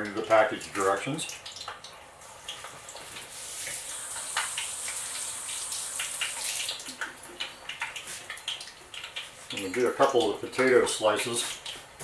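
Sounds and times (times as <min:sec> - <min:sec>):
faucet running: 0:00.0 - 0:12.0.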